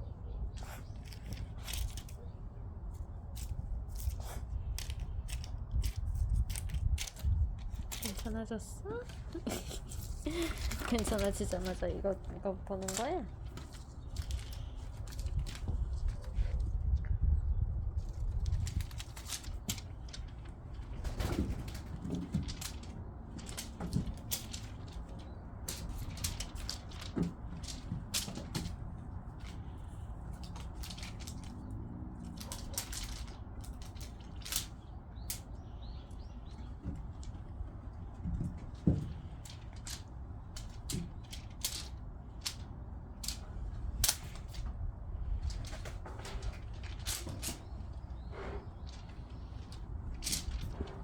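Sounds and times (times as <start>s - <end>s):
crinkly cat toy rustling: 0.4s - 17.0s, 17.9s - 51.0s.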